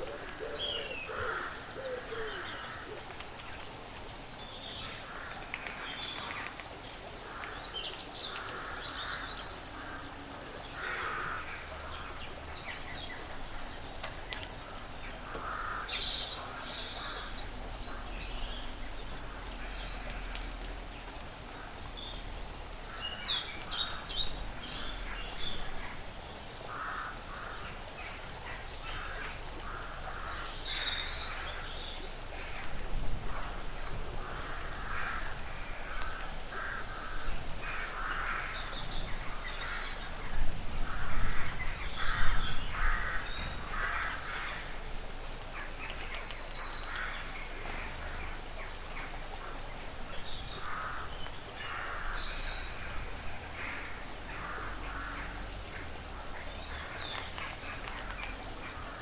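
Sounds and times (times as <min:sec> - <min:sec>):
outdoor background noise: 0:00.0 - 0:59.0.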